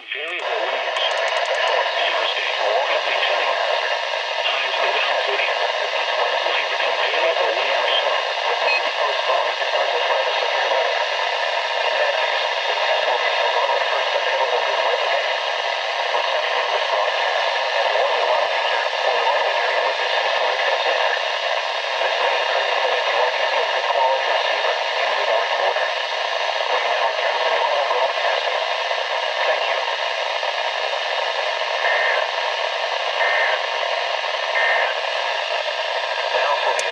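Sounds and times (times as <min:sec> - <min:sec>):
radio static hiss: 0:00.0 - 0:36.9.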